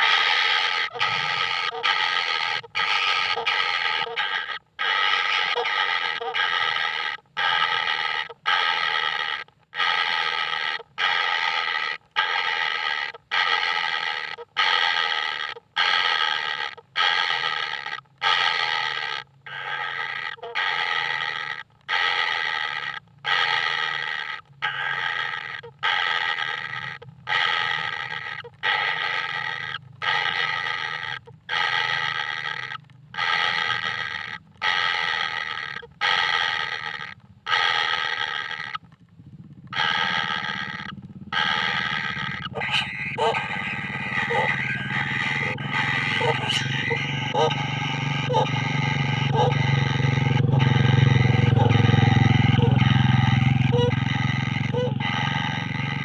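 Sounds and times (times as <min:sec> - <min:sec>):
bird chick begging calls: 0:00.0 - 0:38.8, 0:39.7 - 0:56.0.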